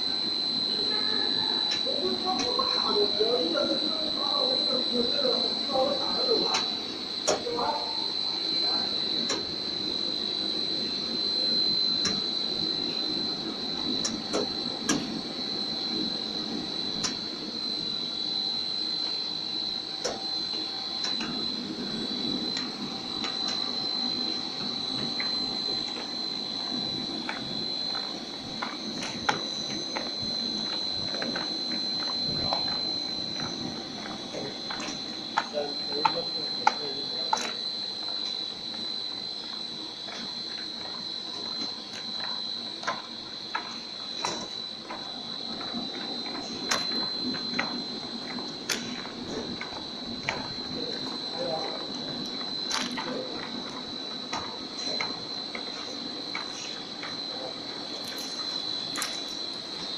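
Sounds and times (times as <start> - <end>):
extrusion machine whine and rumble: 0.0 - 59.9.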